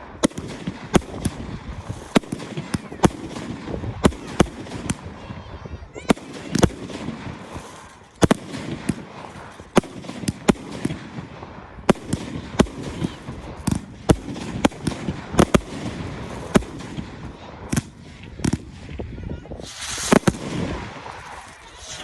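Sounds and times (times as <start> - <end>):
fireworks crackle and rumble: 0.0 - 22.0
fireworks exploding: 0.0 - 22.0.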